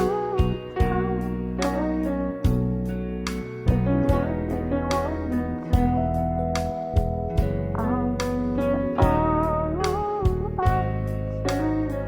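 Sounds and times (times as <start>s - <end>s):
gentle acoustic guitar music: 0.0s - 12.0s.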